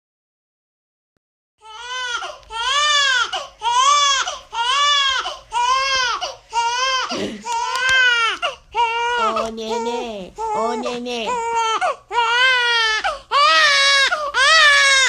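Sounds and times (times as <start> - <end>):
infant crying: 1.6 - 15.0.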